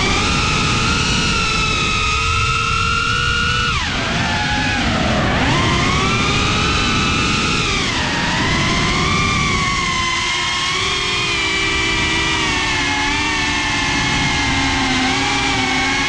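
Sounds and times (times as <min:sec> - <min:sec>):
drone motors whining: 0:00.0 - 0:16.0
propeller wash rushing: 0:00.0 - 0:16.0.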